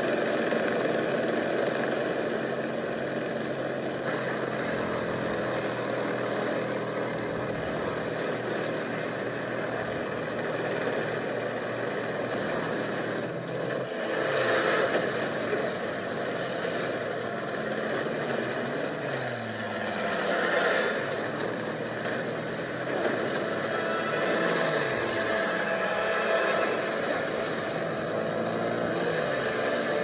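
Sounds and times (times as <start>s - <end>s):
airplane engine droning: 0.0s - 30.0s.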